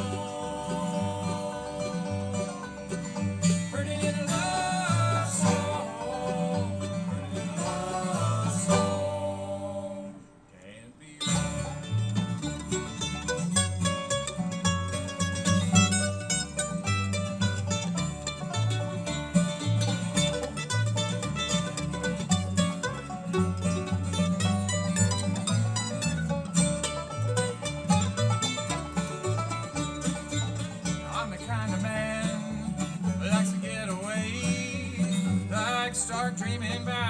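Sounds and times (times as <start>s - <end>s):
bluegrass band playing: 0.0s - 10.2s, 11.2s - 37.0s.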